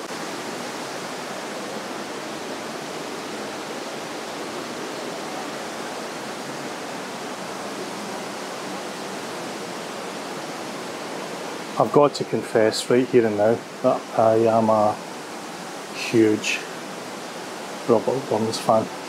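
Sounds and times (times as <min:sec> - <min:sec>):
stream running over rocks: 0:00.0 - 0:19.0
waterfall rushing: 0:00.0 - 0:19.0.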